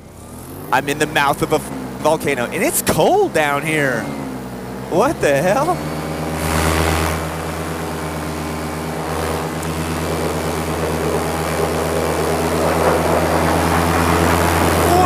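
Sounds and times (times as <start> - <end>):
paramotor engine droning: 0.0 - 15.0.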